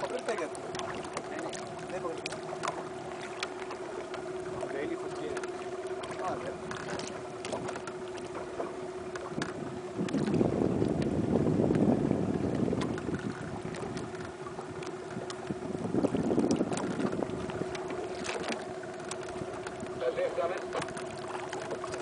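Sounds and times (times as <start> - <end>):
boat motor humming: 0.0 - 22.0
water rushing against hull: 0.0 - 22.0.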